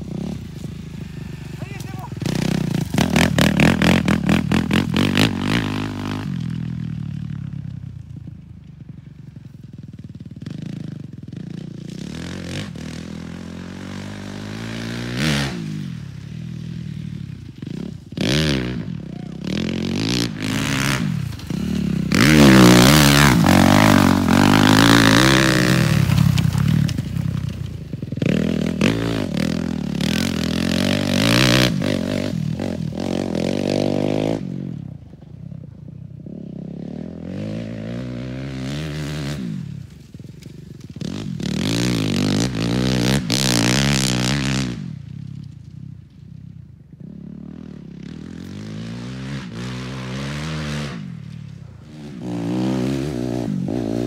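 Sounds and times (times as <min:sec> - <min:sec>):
motocross bike engine revving: 0:00.0 - 0:08.1, 0:08.7 - 0:35.2, 0:36.2 - 0:45.5, 0:46.9 - 0:54.0.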